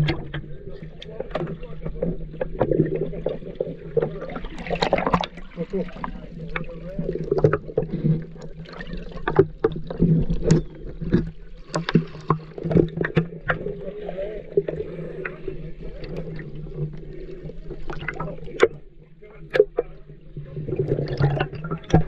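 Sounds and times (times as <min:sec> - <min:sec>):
sharp underwater clicks and crackles: 0:00.0 - 0:22.0
water sloshing and bubbling: 0:00.0 - 0:22.0.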